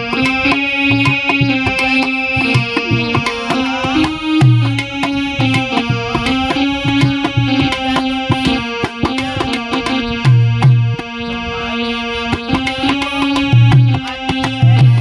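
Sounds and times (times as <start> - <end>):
held melody notes: 0.0 - 15.0
tabla drumming: 0.0 - 15.0.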